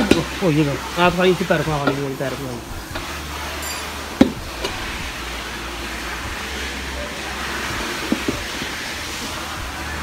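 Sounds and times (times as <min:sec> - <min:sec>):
workshop hiss and hum: 0:00.0 - 0:10.0.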